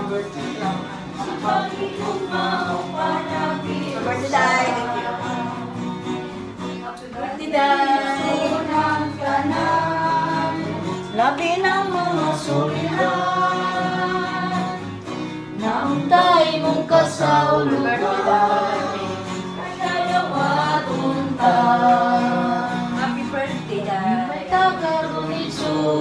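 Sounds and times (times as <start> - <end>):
acoustic guitar: 0.0 - 26.0
voices singing: 0.0 - 26.0.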